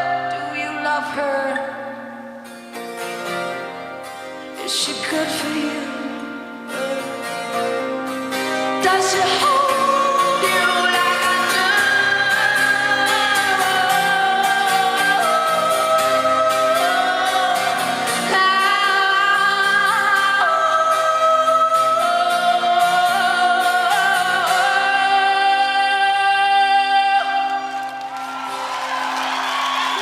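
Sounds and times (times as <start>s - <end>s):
live band music: 1.2s - 30.0s.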